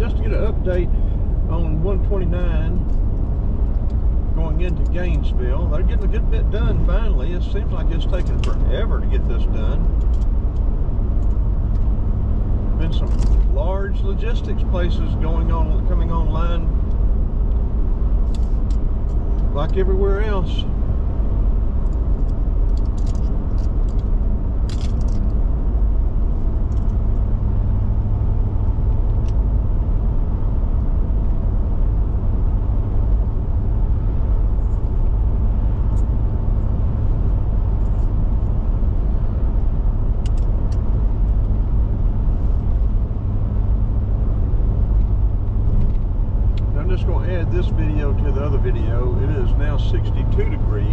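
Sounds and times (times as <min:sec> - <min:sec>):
car cabin road rumble: 0:00.0 - 0:50.9.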